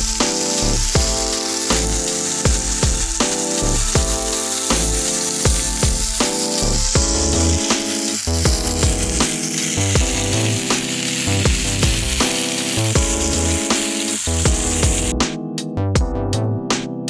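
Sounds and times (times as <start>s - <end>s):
steaks sizzling in a pan: 0.0s - 15.2s
electronic music with steady beat: 0.0s - 17.0s.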